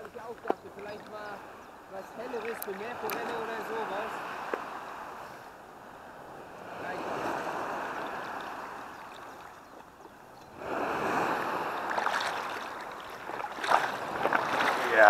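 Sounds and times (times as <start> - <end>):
sea water sloshing and lapping: 0.2 - 5.5, 6.5 - 15.0.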